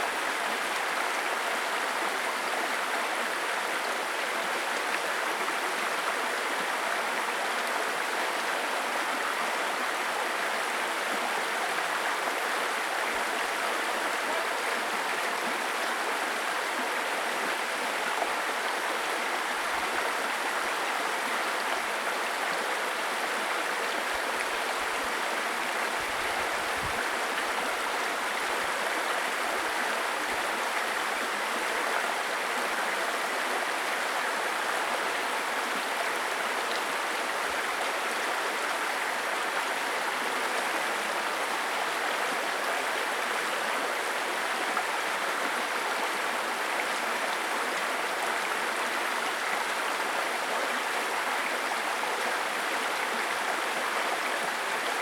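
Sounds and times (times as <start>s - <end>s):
stream babbling over stones: 0.1s - 55.0s.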